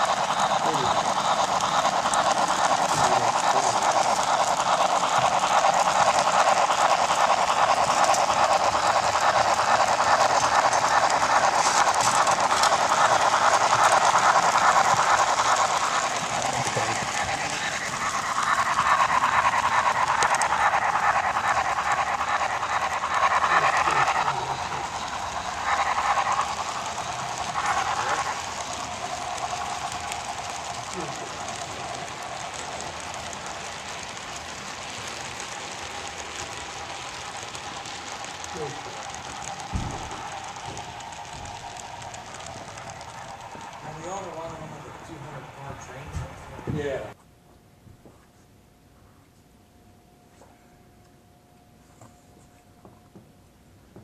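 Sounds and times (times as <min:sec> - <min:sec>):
model train whirring and rattling: 0:00.0 - 0:47.2.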